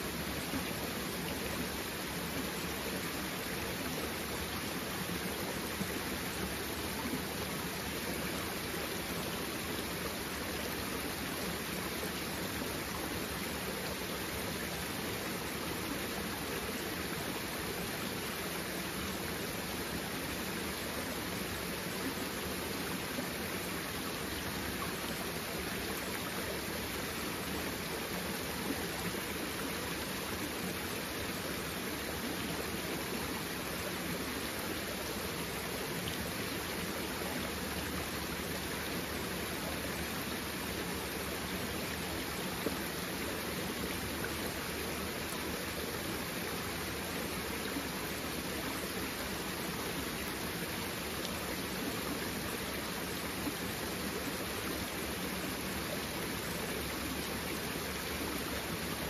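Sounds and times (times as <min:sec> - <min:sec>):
stream burbling over stones: 0:00.0 - 0:59.0.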